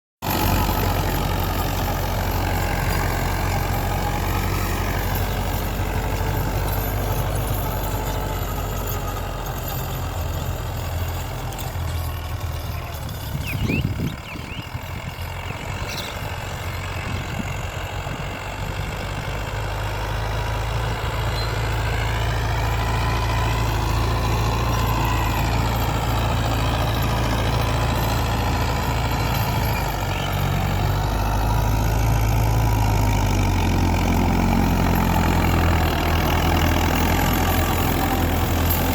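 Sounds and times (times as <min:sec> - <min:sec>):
tractor diesel engine running: 0:00.2 - 0:38.9.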